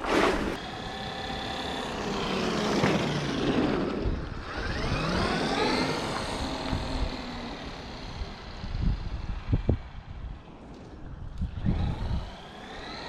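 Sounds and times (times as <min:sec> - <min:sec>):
rc truck electric motor whining: 0:00.6 - 0:10.3, 0:11.2 - 0:13.0.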